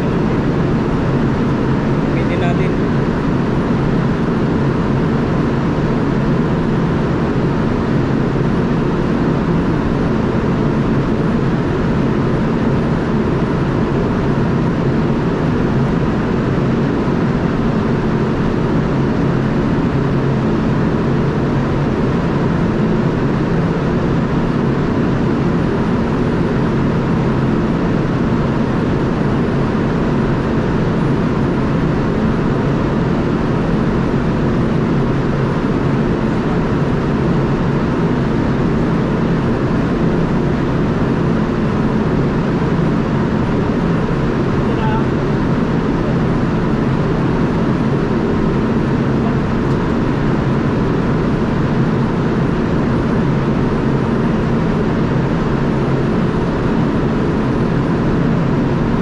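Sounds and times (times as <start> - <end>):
faint steady whine: 0.0 - 59.0
ship engine drone: 0.0 - 59.0.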